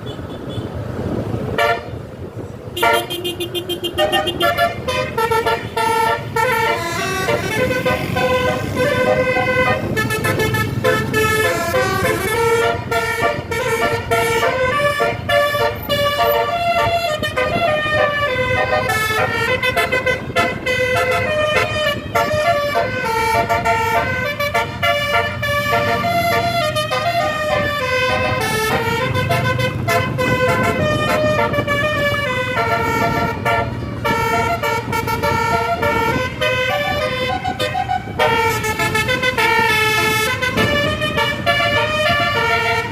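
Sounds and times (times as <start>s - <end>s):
bus engine running: 0.0s - 42.9s
musical air horns playing tune: 1.5s - 2.0s, 2.8s - 42.9s.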